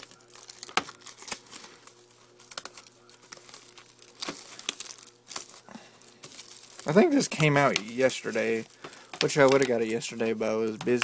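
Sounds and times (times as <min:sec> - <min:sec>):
plastic wrapping tearing and crinkling: 0:00.0 - 0:11.0.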